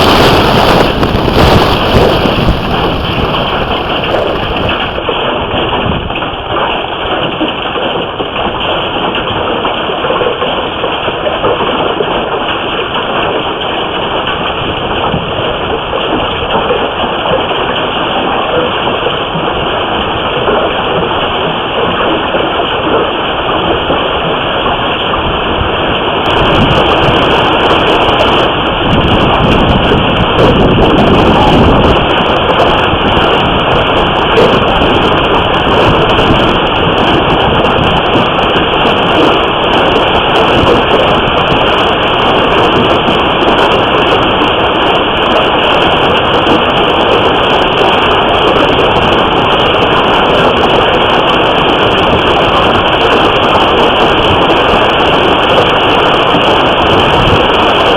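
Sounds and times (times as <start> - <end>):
hail and rain pelting: 0.0 - 57.9.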